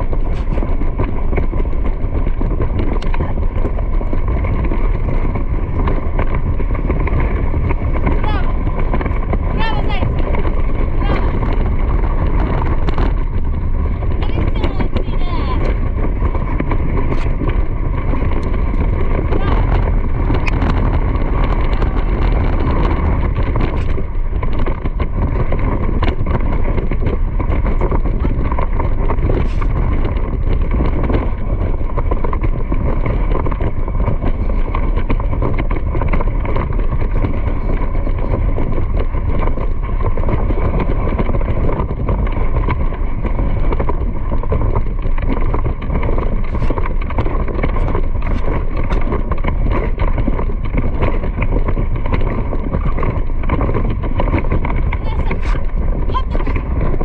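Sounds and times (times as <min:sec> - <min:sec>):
camera knocks and rattles: 0:00.0 - 0:57.0
wind rumble on microphone: 0:00.0 - 0:57.0.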